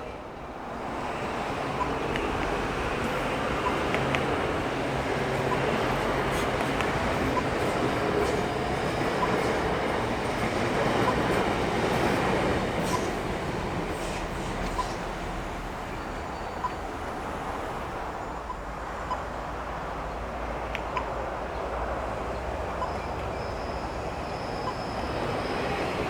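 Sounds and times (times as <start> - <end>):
electric train running past: 0.0 - 26.0.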